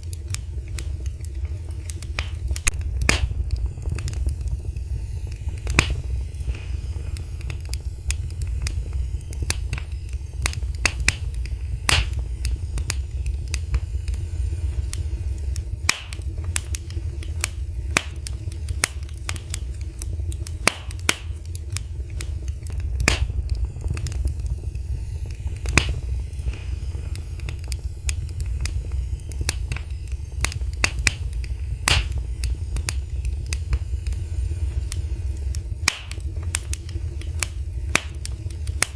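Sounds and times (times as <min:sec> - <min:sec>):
low rumble: 0:00.0 - 0:38.9
wood fire crackling: 0:00.0 - 0:38.9.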